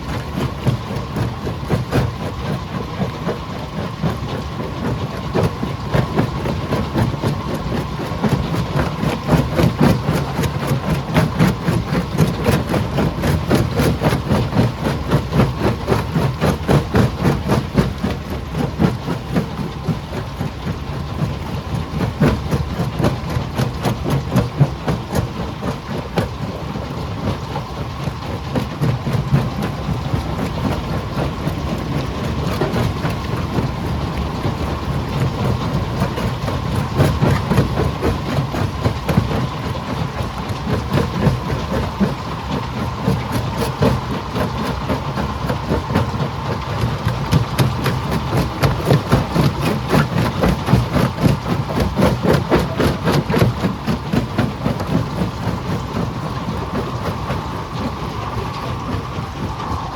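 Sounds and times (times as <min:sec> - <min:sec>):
steady whine: 0:00.0 - 0:59.9.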